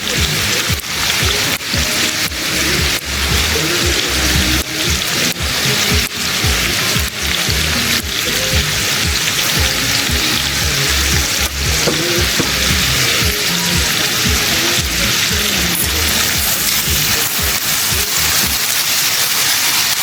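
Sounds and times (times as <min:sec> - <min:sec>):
soft background music: 0:00.0 - 0:18.6
steady hissing: 0:00.0 - 0:20.0.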